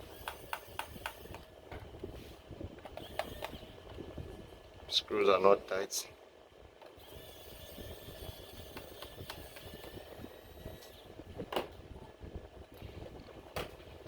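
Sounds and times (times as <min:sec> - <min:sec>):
faint thin whine: 0:00.0 - 0:14.0.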